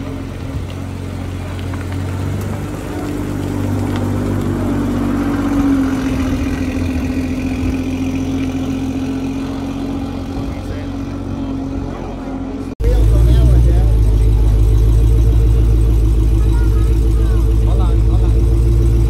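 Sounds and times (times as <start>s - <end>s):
car engine idling and pulling away: 0.0s - 19.0s.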